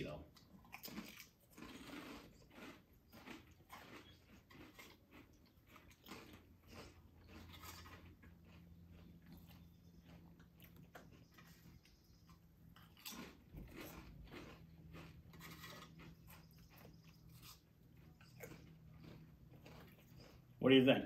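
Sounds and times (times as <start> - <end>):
crunching chips: 0.3 - 20.6.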